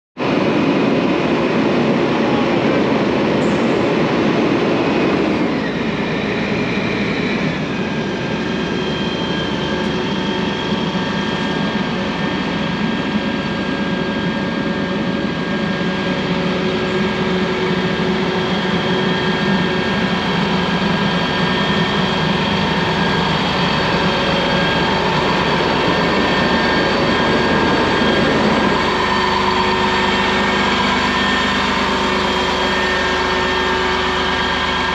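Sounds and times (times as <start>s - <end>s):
diesel engine drone with whine: 0.2s - 34.9s.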